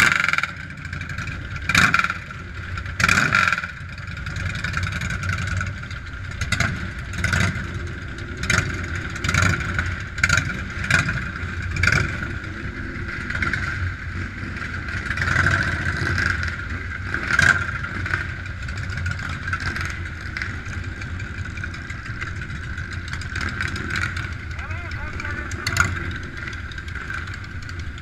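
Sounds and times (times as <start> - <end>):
motorcycle engines idling: 0.0 - 28.0.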